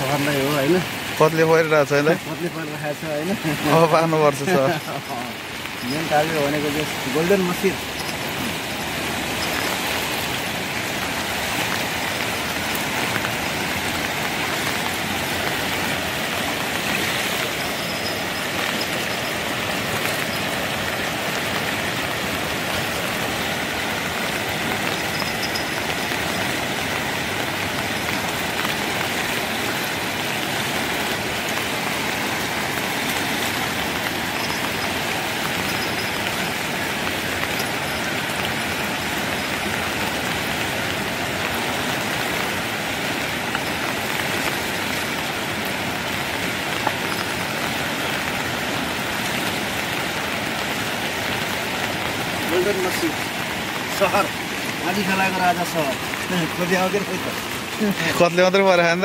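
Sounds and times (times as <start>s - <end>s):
falling rain: 0.0s - 59.0s
river rushing in flood: 0.0s - 59.0s.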